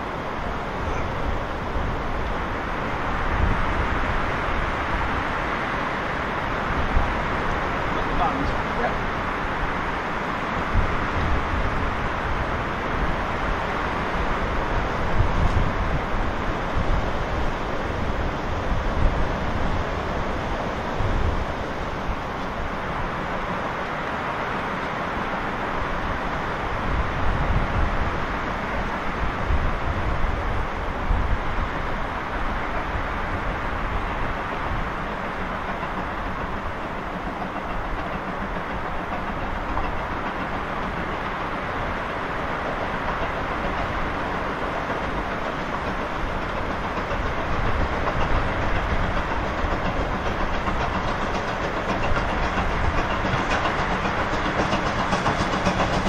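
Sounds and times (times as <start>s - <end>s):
steam locomotive exhaust: 0.0s - 56.0s.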